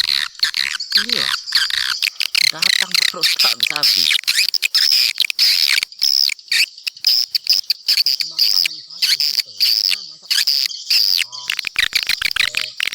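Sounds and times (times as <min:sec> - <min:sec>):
swiftlets twittering: 0:00.0 - 0:12.9.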